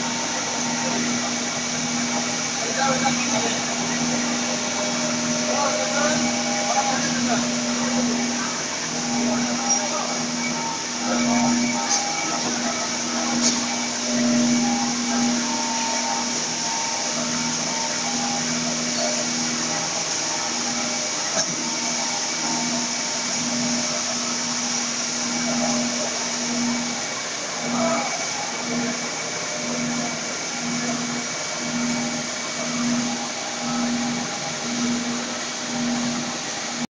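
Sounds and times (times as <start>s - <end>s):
blower fans hissing: 0.0s - 36.9s
pulsing motor hum: 0.0s - 36.9s.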